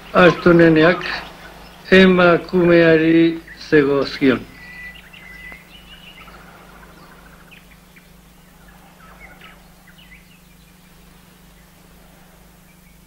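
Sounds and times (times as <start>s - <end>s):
faint birds chirping: 0.0s - 13.0s
low hum: 0.0s - 13.0s.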